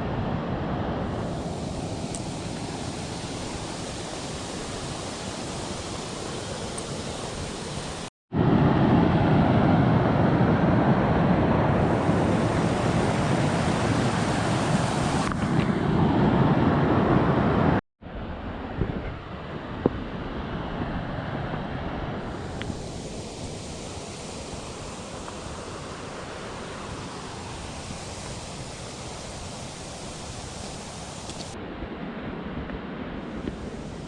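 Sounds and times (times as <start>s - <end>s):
steady rushing outdoor noise: 0.0s - 34.0s.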